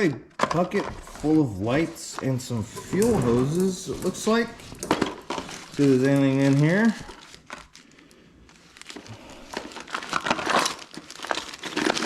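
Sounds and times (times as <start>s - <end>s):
small parts clattering: 0.0s - 7.8s, 9.5s - 12.0s
hands rummaging through parts: 0.3s - 7.8s, 8.6s - 12.0s.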